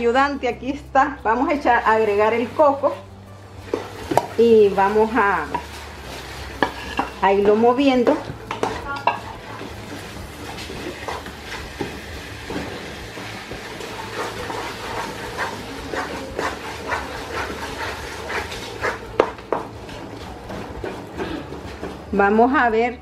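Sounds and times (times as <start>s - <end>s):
wooden spoon scraping pot: 1.9s - 22.4s.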